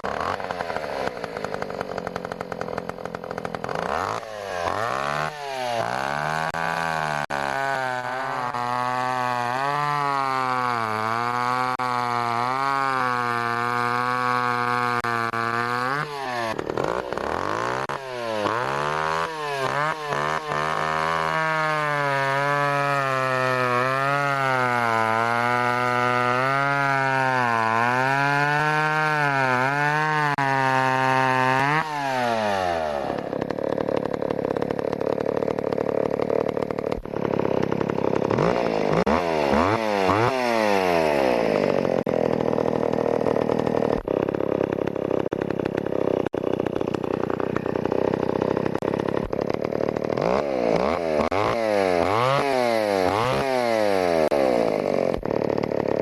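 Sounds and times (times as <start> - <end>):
chainsaw cutting through log: 0.0 - 56.0
chainsaw revving: 0.0 - 56.0.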